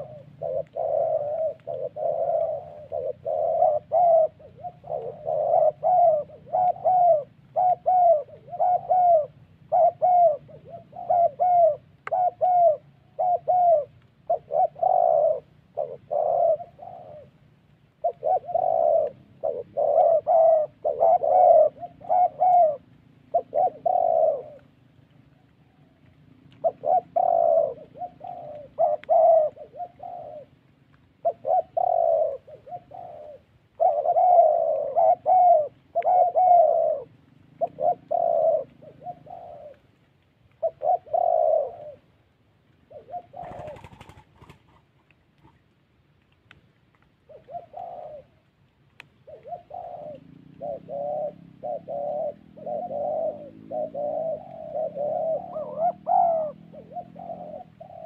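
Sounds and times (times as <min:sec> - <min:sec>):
doves cooing: 0:00.0 - 0:45.8, 0:46.9 - 0:58.0.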